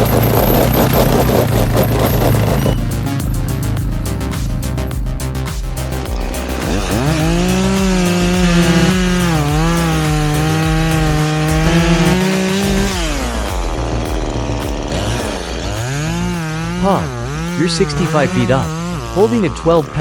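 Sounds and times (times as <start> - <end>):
chainsaw revving: 0.0 - 5.0, 5.8 - 20.0.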